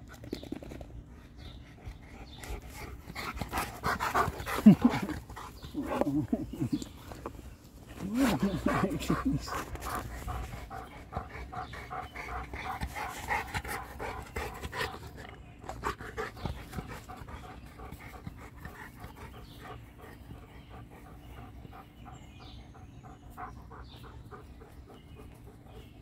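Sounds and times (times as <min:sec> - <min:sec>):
dog panting: 0:00.0 - 0:26.0.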